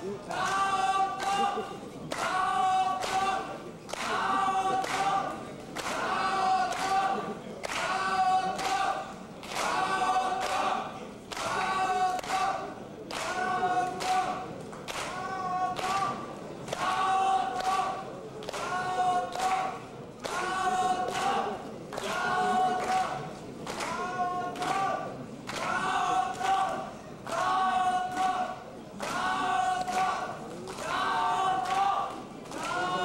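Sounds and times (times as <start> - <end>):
crowd chanting: 0.0 - 33.0.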